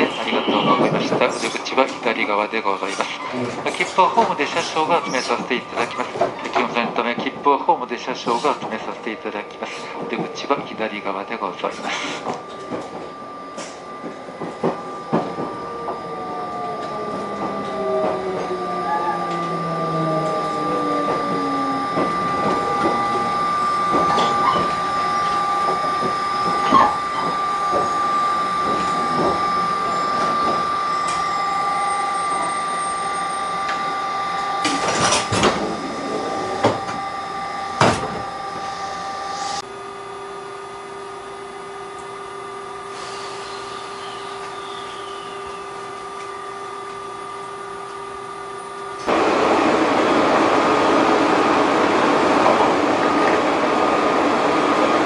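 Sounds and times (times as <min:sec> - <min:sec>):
train electrical equipment whine: 0:00.0 - 0:55.0.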